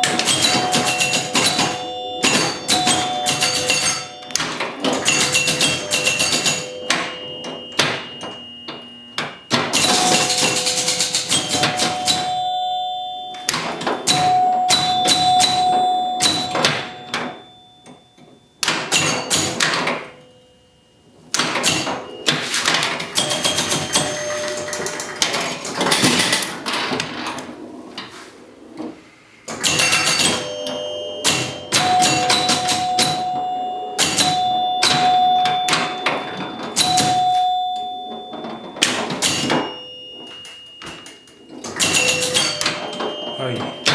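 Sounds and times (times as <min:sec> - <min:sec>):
pinball flippers and relays clicking: 0:00.0 - 0:20.3, 0:21.3 - 0:28.1, 0:29.5 - 0:43.9
pinball score chimes: 0:00.0 - 0:43.9.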